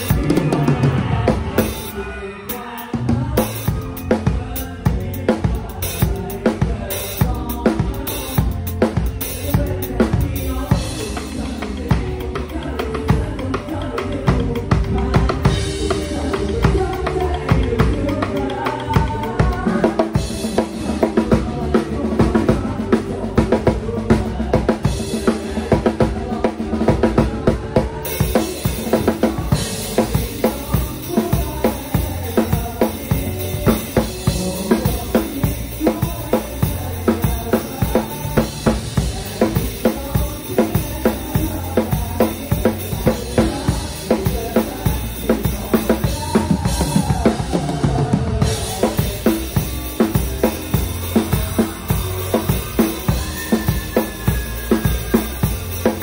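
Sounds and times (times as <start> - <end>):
acoustic drum kit beat: 0.0 - 56.0
recorded backing track music: 0.0 - 56.0.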